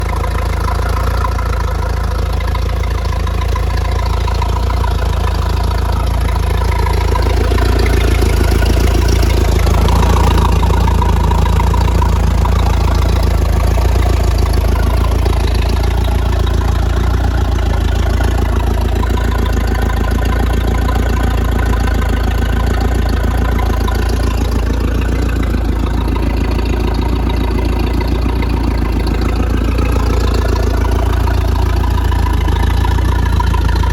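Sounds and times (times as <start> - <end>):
engine running with deep rumble: 0.0 - 33.9.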